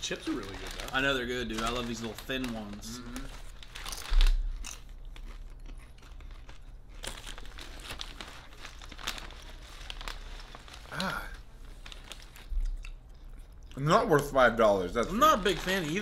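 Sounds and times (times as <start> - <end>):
plastic chip bag rustling: 0.0 - 12.6, 13.8 - 16.0.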